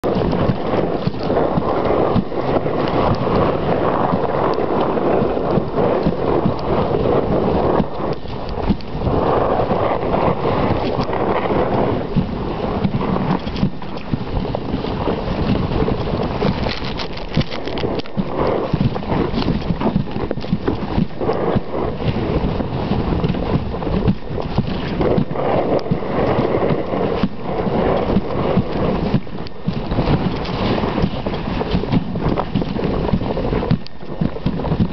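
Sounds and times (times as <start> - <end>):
sled knocking and rattling: 0.0 - 34.9
sled runners scraping over snow: 0.0 - 34.9.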